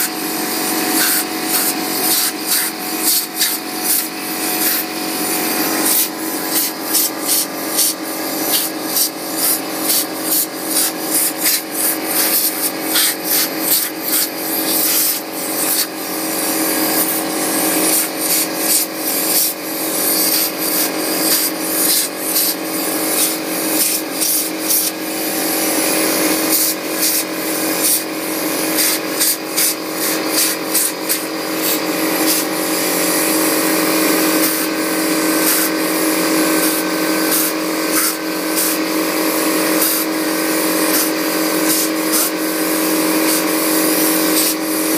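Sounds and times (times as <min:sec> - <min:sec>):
air blow gun hissing: 0:00.0 - 0:44.9
air compressor humming: 0:00.0 - 0:44.9.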